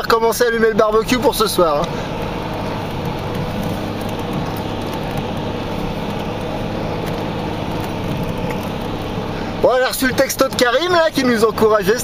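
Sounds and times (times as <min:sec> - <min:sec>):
engine drone: 0:00.0 - 0:12.0
tyre and road noise: 0:00.0 - 0:12.0.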